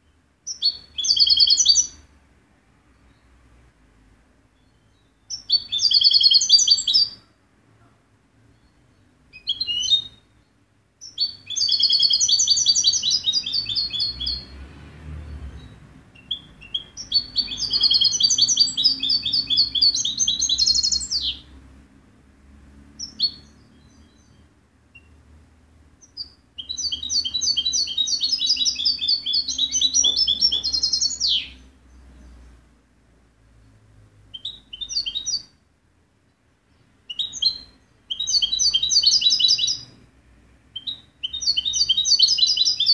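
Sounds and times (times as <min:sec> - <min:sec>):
finch twittering song: 0:00.0 - 0:02.1, 0:04.5 - 0:07.3, 0:08.4 - 0:21.6, 0:22.9 - 0:25.3, 0:26.0 - 0:32.6, 0:33.5 - 0:35.6, 0:36.3 - 0:40.0, 0:40.7 - 0:42.9.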